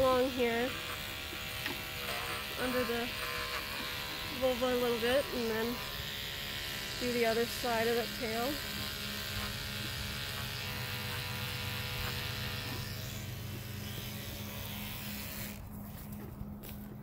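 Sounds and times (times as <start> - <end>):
electric clippers buzzing: 0.0 - 15.9.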